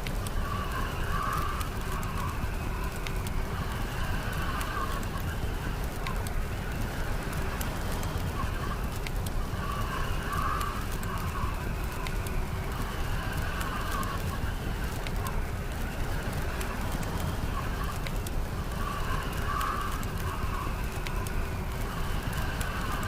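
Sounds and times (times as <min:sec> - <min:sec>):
low rumble of wind: 0:00.0 - 0:23.0
whistling howl of wind: 0:00.0 - 0:23.0
wood fire crackling and popping: 0:00.0 - 0:23.0.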